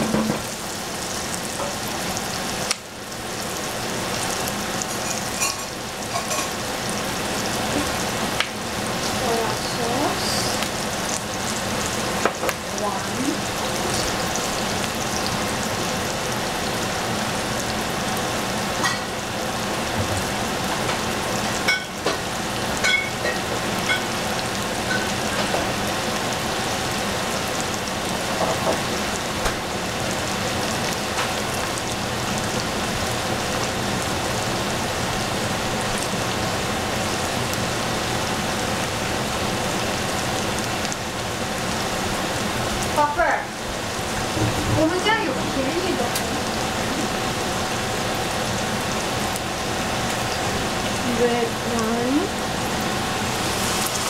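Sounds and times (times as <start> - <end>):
onion sizzling in oil: 0.0 - 54.0.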